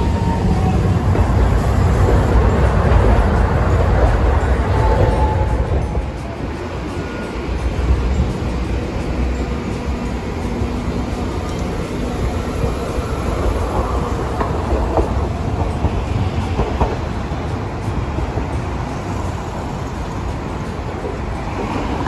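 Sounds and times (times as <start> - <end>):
city road traffic: 0.0 - 22.0
streetcar wheels rumbling: 0.0 - 22.0.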